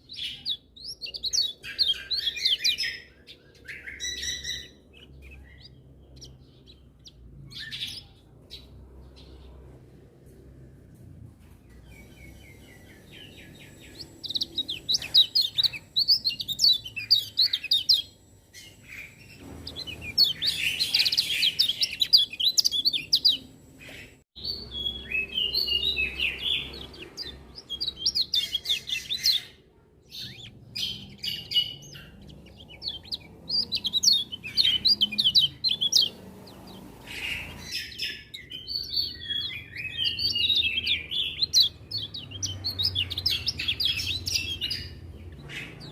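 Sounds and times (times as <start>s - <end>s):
birds twittering: 0.0s - 45.9s.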